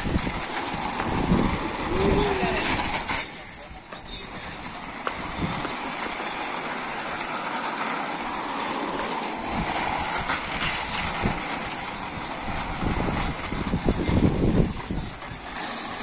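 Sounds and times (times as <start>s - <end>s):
plastic wheels rolling on concrete: 0.0s - 16.0s.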